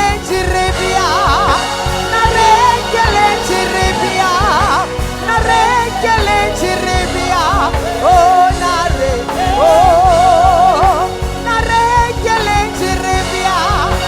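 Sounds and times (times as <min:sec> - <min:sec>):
backing music with steady beat: 0:00.0 - 0:14.0
person singing with vibrato: 0:00.0 - 0:14.0.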